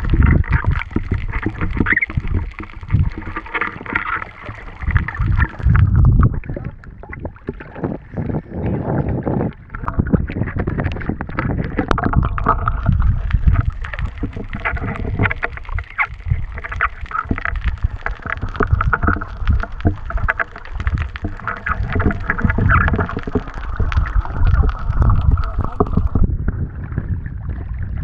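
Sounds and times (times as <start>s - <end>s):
muffled underwater rumble and gurgle: 0.0s - 28.0s
water sloshing and splashing: 0.0s - 28.0s.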